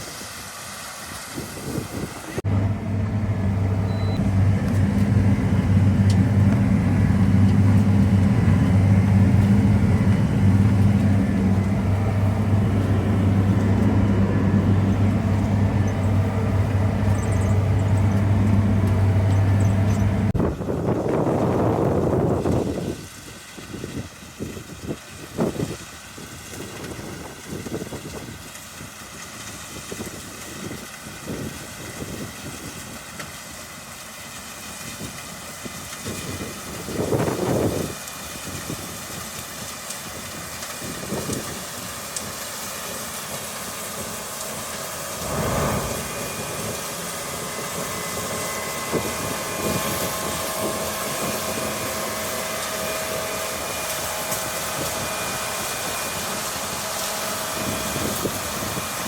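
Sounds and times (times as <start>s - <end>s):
harvest machinery engine running: 0.1s - 59.0s.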